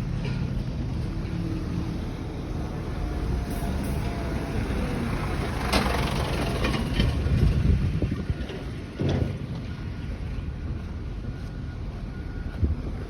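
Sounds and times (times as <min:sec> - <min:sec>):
heavy vehicle engines rumbling: 0:00.0 - 0:13.0.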